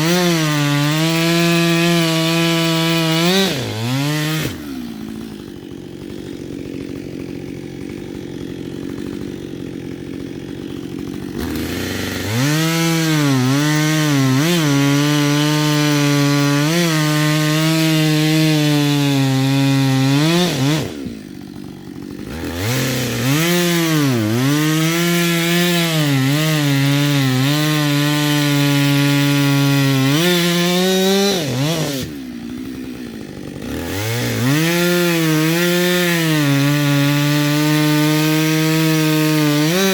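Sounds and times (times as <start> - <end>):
chainsaw cutting firewood: 0.0 - 39.9
chainsaw idling: 0.0 - 39.9.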